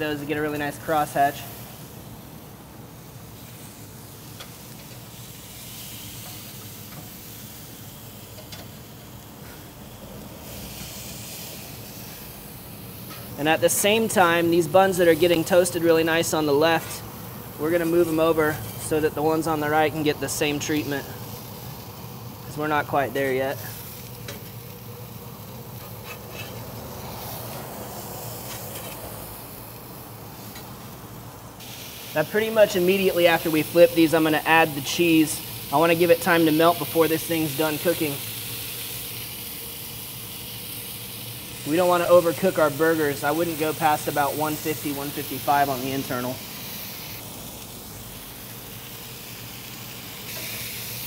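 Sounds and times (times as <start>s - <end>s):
burger patties sizzling on grill: 0.0s - 51.0s.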